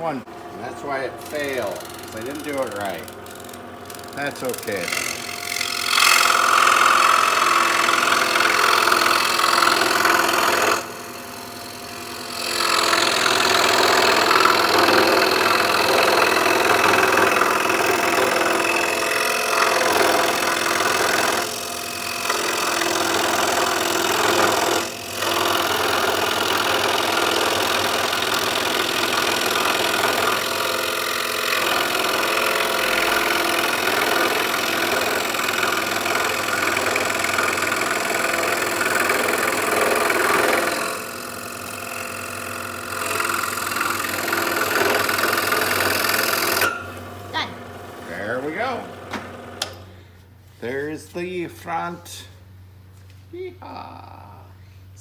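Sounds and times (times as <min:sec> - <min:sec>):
scroll saw cutting wood: 0:00.0 - 0:49.9.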